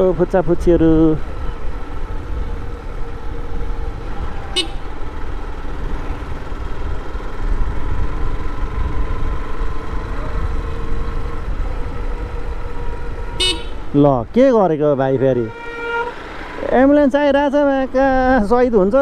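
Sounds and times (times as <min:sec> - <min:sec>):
motorcycle engine and wind rumble: 0:00.0 - 0:19.0.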